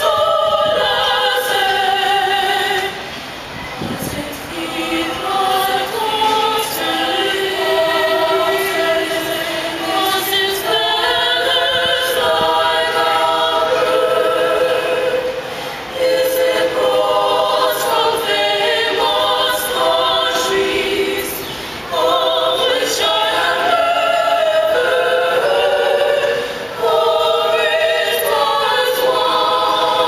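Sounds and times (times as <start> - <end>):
women's choir singing: 0.0 - 30.0.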